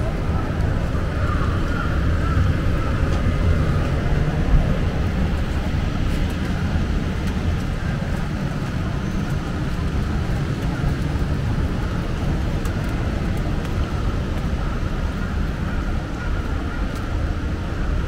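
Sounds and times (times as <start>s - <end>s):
traffic rumble: 0.0s - 18.0s
raindrops ticking: 0.1s - 17.7s.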